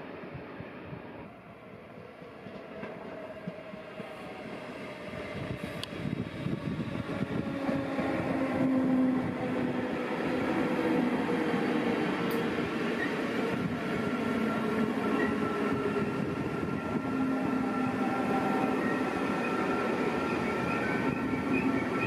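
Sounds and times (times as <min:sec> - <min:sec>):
train wheel and rail noise: 0:00.0 - 0:22.0.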